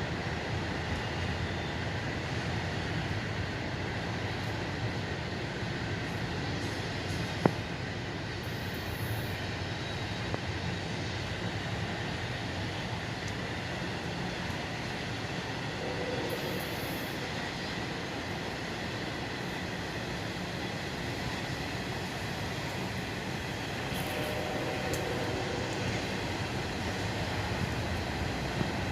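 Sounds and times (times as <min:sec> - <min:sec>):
train wheels on rails: 0:00.0 - 0:28.9.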